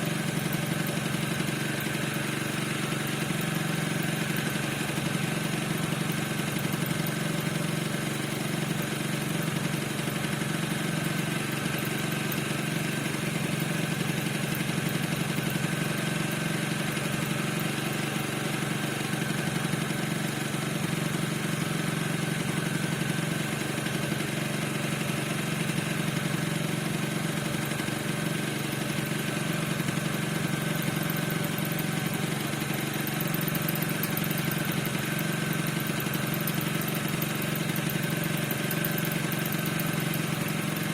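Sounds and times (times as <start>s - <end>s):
scooter engine idling: 0.0s - 40.9s.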